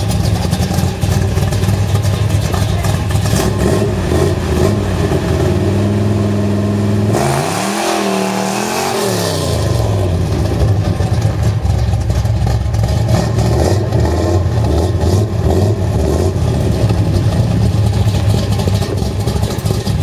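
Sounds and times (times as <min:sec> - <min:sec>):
car engine rumbling at low revs: 0:00.0 - 0:20.0.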